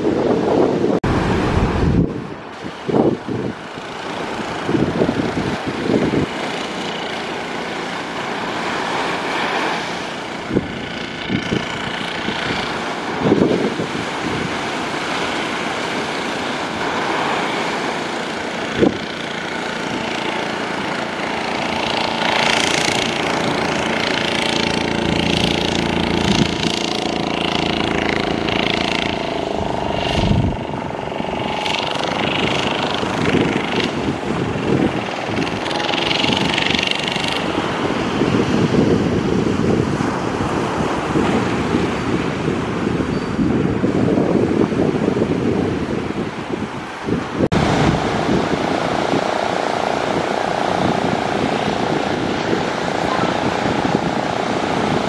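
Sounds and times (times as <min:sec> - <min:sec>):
outboard motor running: 0:00.0 - 0:55.0
surf: 0:00.0 - 0:55.0
wind: 0:00.0 - 0:55.0.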